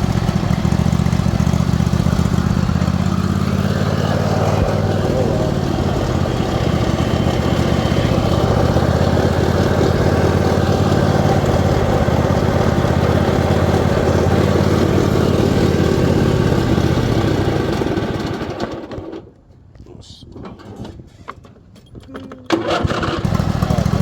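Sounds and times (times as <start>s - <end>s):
riding mower engine running: 0.0s - 19.4s, 22.5s - 24.0s.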